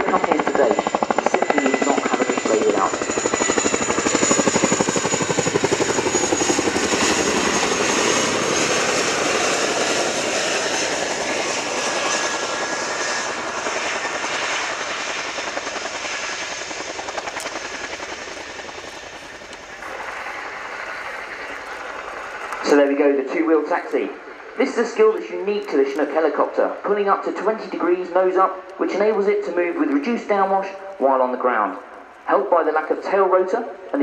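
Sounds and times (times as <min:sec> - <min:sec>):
turbine engine whine: 0:00.0 - 0:30.9.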